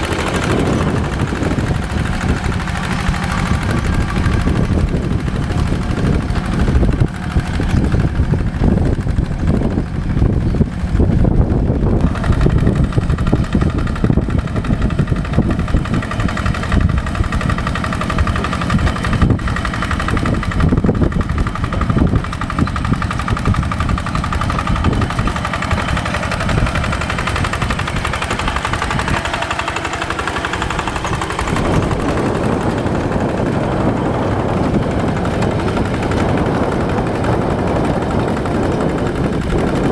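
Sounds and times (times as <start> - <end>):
tractor diesel engine chugging: 0.0 - 39.9.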